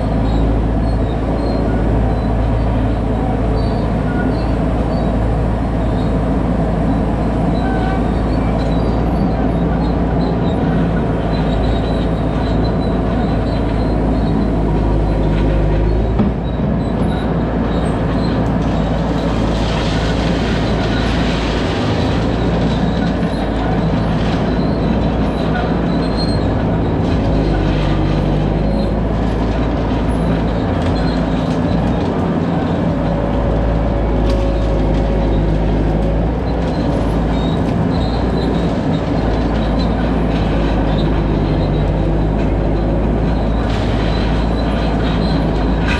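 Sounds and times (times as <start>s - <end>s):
skid steer engine running: 0.0s - 45.9s.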